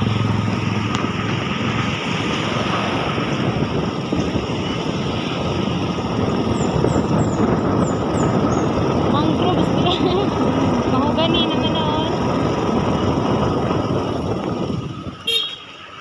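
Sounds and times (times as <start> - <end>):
vehicle engine running: 0.0 - 16.0
wind rushing over microphone: 0.0 - 16.0.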